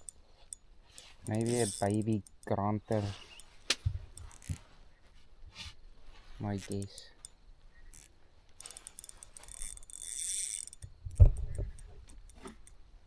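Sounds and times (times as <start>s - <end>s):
fishing reel clicking and whirring: 0.0s - 4.7s, 6.5s - 12.8s.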